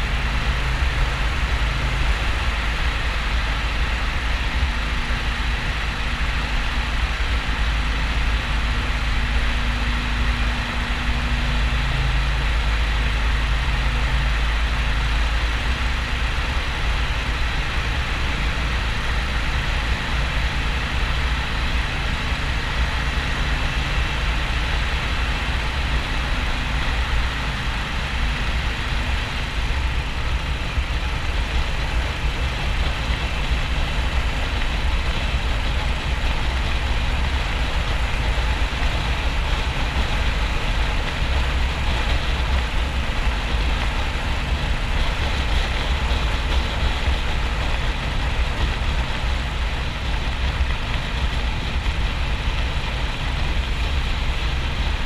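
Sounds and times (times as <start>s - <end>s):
wind rushing on microphone: 0.0s - 55.0s.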